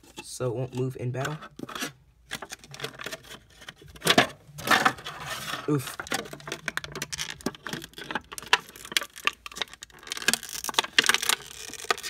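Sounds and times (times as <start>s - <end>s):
plastic packaging crackling: 2.3s - 12.0s.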